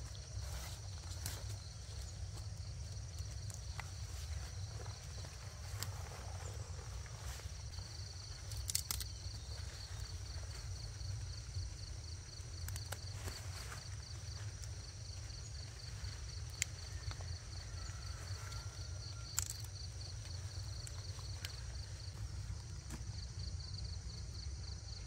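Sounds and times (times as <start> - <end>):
insect pulsing chirp: 0.0 - 25.0.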